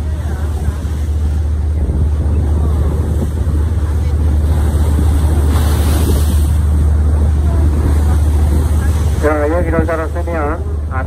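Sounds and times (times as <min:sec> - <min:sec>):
wind on microphone: 0:00.0 - 0:10.9
boat engine humming: 0:00.0 - 0:11.0
rushing water: 0:00.0 - 0:11.0.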